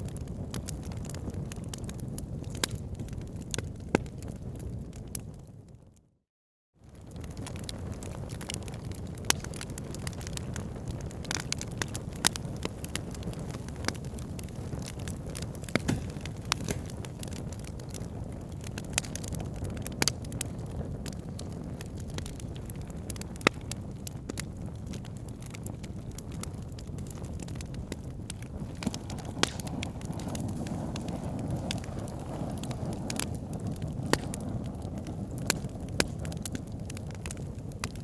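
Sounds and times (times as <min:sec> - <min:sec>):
fire crackling in fireplace: 0:00.0 - 0:06.0, 0:06.8 - 0:38.0.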